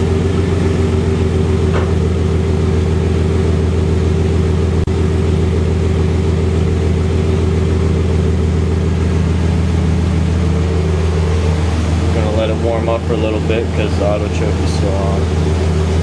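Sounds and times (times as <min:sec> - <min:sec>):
engine idling through exhaust: 0:00.0 - 0:16.0.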